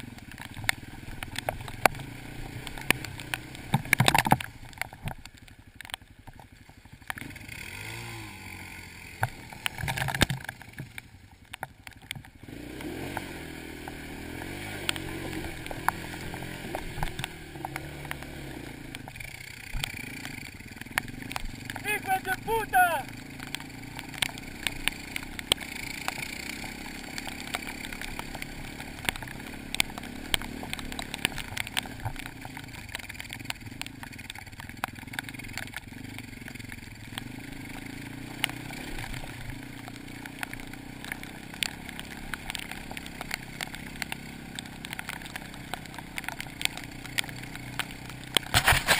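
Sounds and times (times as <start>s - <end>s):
dirt bike engine running: 0.0s - 48.9s
sharp clicks and knocks: 0.2s - 7.3s, 9.1s - 12.4s, 14.8s - 21.9s, 23.1s - 48.9s.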